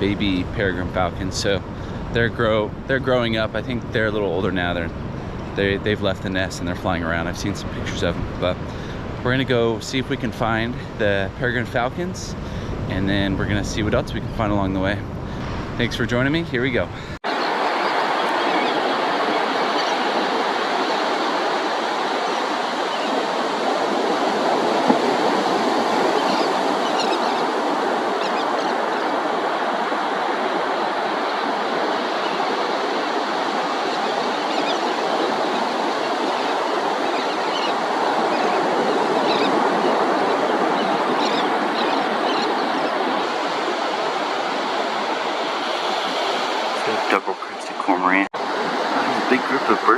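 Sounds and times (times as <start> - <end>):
ocean surf breaking on beach: 0.0 - 49.9.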